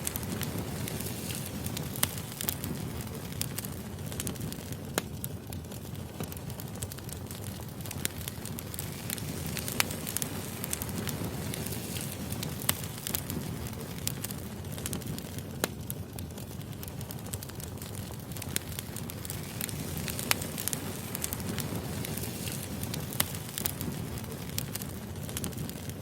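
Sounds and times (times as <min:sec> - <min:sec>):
firewood crackling and popping: 0:00.0 - 0:26.0
low rush of flame: 0:00.0 - 0:26.0.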